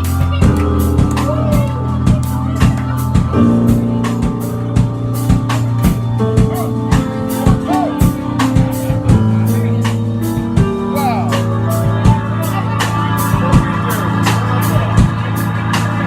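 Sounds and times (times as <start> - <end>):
drum kit beat: 0.0 - 16.0
held bass notes: 0.0 - 16.0.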